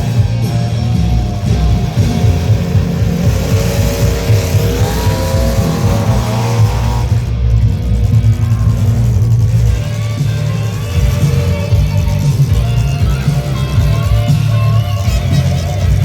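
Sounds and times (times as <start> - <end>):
truck engine revving: 0.0 - 16.0
truck engines running rough: 0.0 - 16.0.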